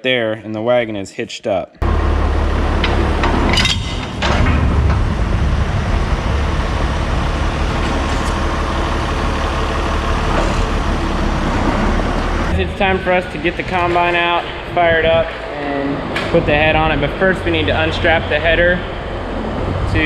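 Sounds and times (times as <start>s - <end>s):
diesel engine running: 1.8s - 20.0s.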